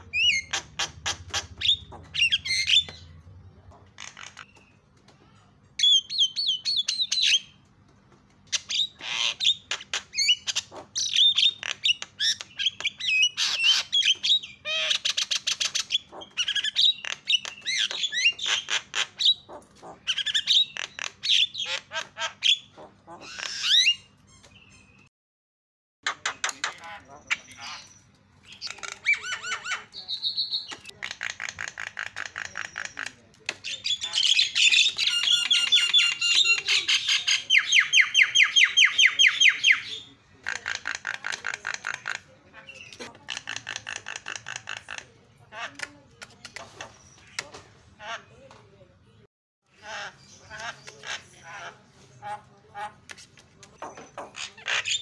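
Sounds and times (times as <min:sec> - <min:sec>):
bird squawking chatter: 0:00.0 - 0:07.7, 0:08.5 - 0:24.9, 0:26.0 - 0:48.4, 0:49.7 - 0:55.0.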